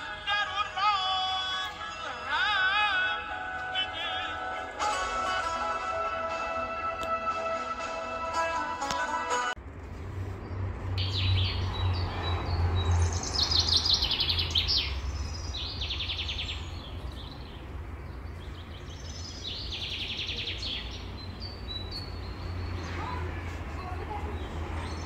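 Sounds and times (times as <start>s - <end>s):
songbirds chirping and trilling: 0.0s - 8.4s, 10.2s - 25.0s.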